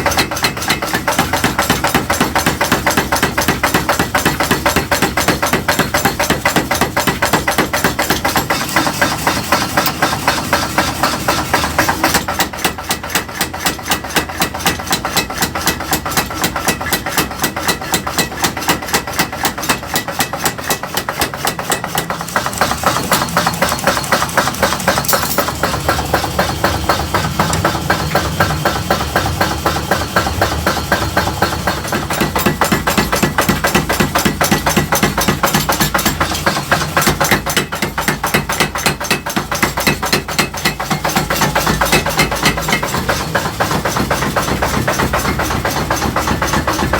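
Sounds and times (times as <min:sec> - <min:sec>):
rapid hammering on metal: 0:00.0 - 0:46.9.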